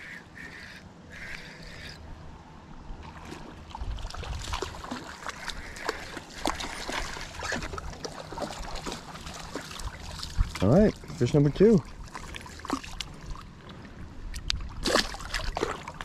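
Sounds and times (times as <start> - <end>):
splashing in shallow water: 2.8 - 16.0.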